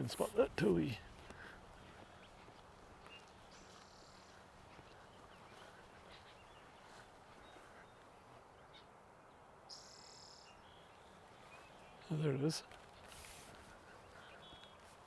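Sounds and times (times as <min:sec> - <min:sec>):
faint bird calls: 0:01.3 - 0:09.0, 0:09.7 - 0:15.0.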